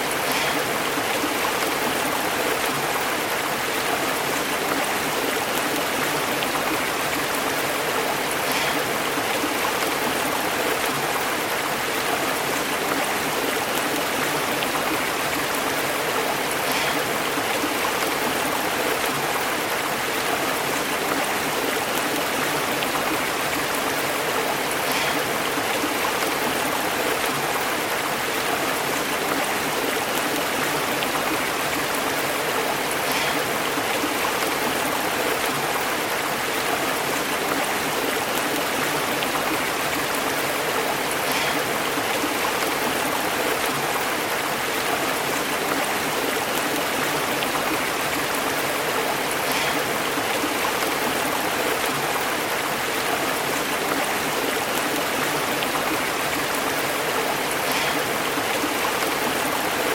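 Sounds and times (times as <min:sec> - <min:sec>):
stream burbling over rocks: 0:00.0 - 0:59.9.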